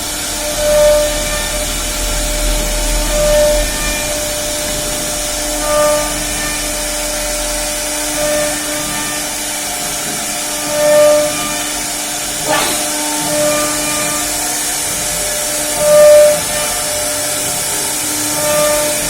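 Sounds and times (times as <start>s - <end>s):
cnc router whining hiss: 0.0s - 19.0s.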